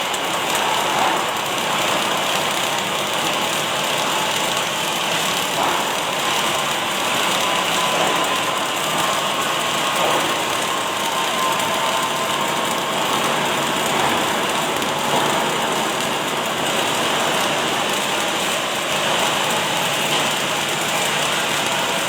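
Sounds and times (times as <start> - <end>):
welding arc crackling: 0.0 - 22.0.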